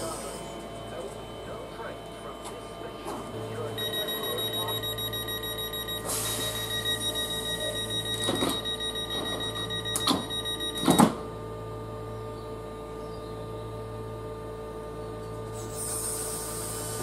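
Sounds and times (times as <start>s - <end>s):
electric train whining: 0.0s - 17.0s.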